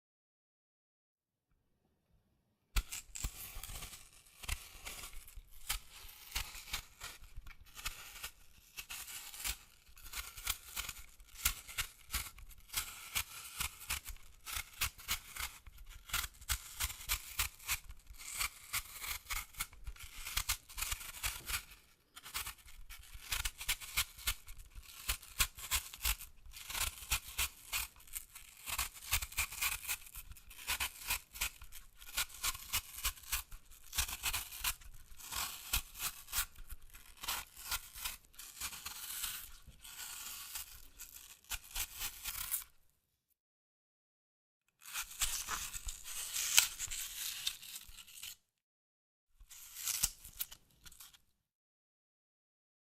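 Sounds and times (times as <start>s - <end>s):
apple being peeled: 2.8s - 42.8s, 44.8s - 48.4s, 49.4s - 51.2s.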